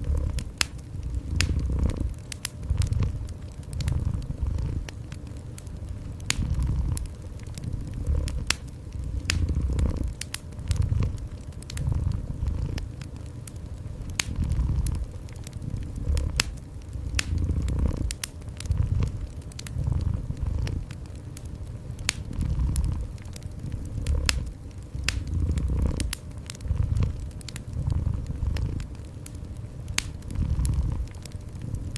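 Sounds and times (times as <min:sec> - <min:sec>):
cat purring: 0:00.0 - 0:21.2, 0:21.8 - 0:31.9
wood fire crackling and popping: 0:00.0 - 0:31.9.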